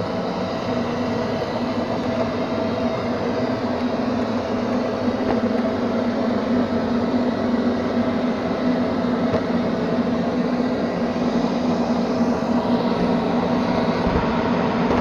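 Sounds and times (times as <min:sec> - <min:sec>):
robot vacuum motor drone: 0:00.0 - 0:15.0.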